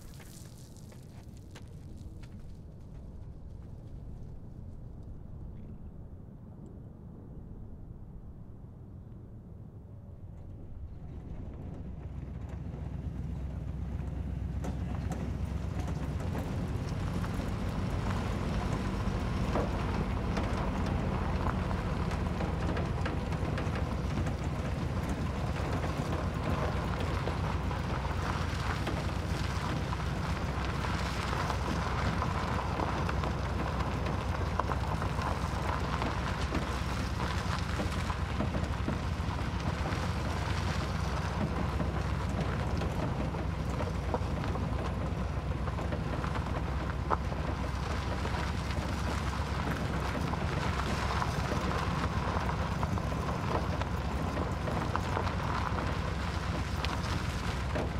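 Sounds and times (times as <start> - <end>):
pickup truck driving on rough road: 0.0 - 5.8, 10.2 - 57.9.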